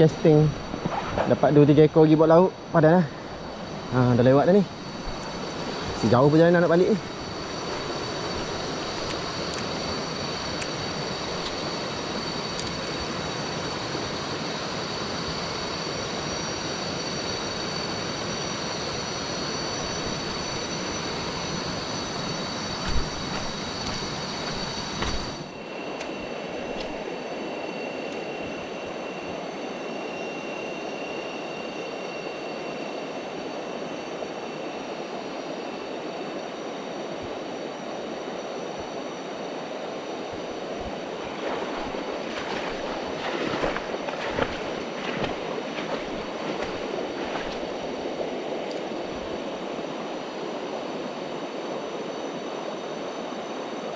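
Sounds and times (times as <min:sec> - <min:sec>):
steady high-pitched tones: 0:00.0 - 0:53.9.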